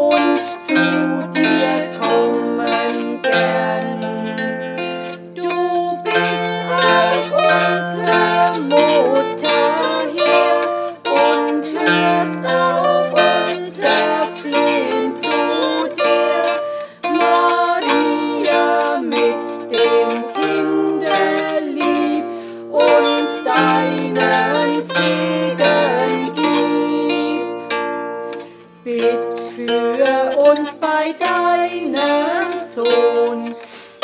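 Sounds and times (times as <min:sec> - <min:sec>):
zither plucked melody: 0:00.0 - 0:33.9.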